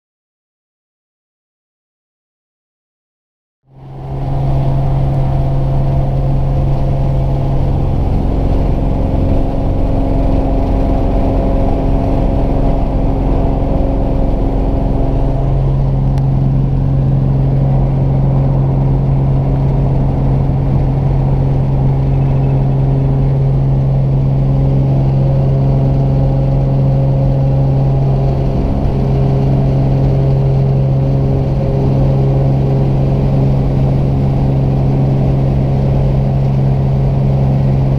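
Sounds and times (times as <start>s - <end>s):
light plane engine drone: 3.7s - 37.9s.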